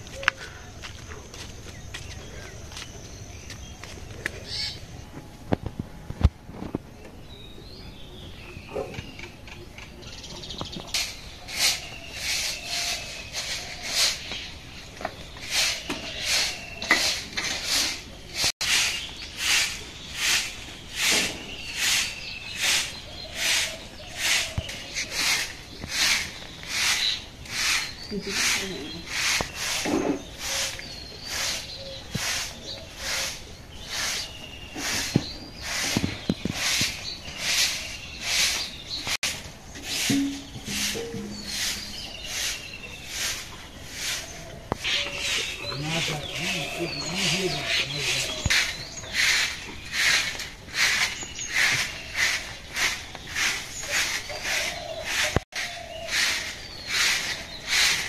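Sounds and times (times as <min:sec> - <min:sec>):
broom sweeping bare earth: 0:10.8 - 0:58.0.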